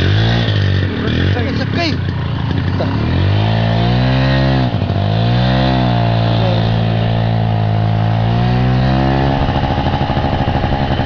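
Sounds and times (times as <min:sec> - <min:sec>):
two-stroke engine running: 0:00.0 - 0:11.0.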